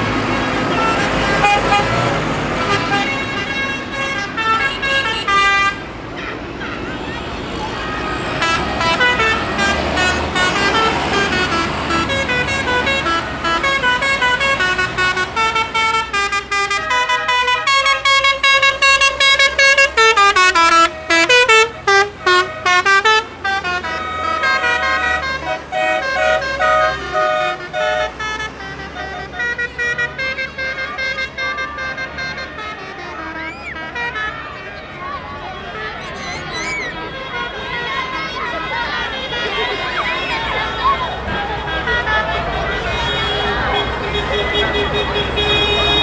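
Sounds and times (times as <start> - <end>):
horn-like melody: 0.3 - 5.8, 8.1 - 46.0.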